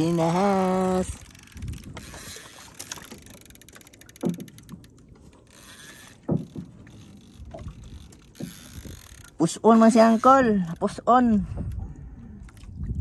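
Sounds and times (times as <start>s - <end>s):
fishing reel clicking: 0.0s - 11.1s.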